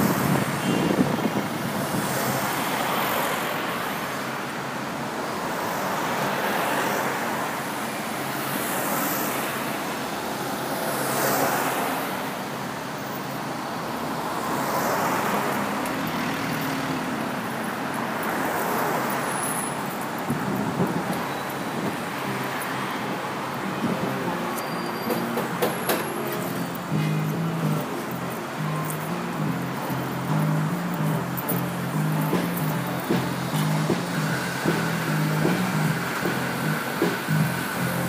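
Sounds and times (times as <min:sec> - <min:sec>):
cars passing: 0:00.0 - 0:38.0.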